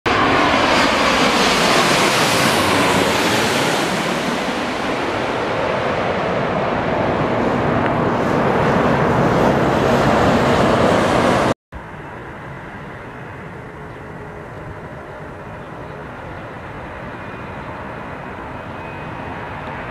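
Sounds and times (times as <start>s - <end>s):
jet engines roaring overhead: 0.1s - 19.9s.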